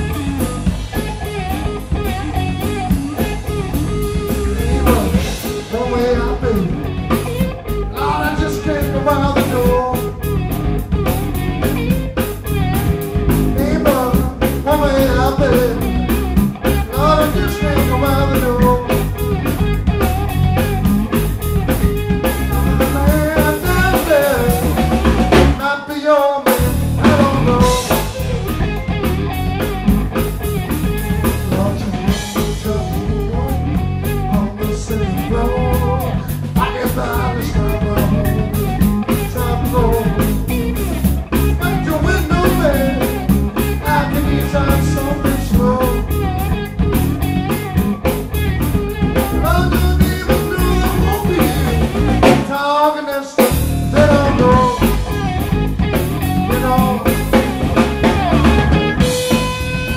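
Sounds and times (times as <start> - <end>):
bass guitar: 0.0 - 52.7, 53.3 - 59.9
drum kit: 0.0 - 59.9
electric guitar lead lines: 0.0 - 59.9.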